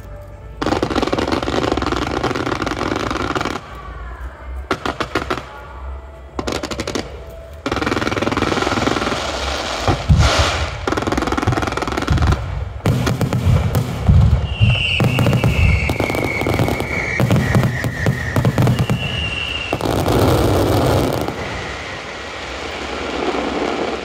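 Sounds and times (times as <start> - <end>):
fireworks whistling: 0.0 - 4.0, 6.4 - 24.0
fireworks booming and crackling: 0.4 - 4.0, 4.6 - 24.0.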